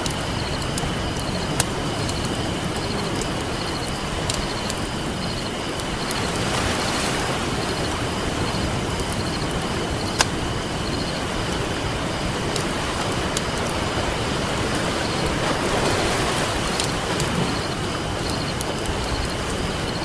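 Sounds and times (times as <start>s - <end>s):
campfire crackling and popping: 0.0s - 20.0s
ocean surf: 0.0s - 20.0s.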